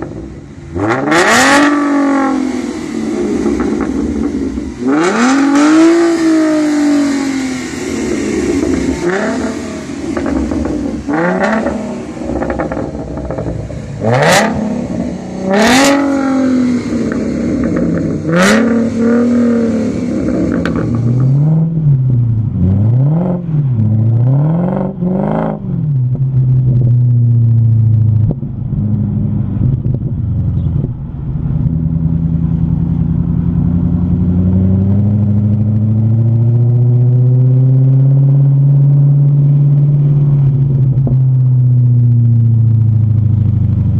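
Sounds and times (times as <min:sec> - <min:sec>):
car accelerating: 0:00.0 - 0:43.9
car engine revving: 0:00.0 - 0:43.9.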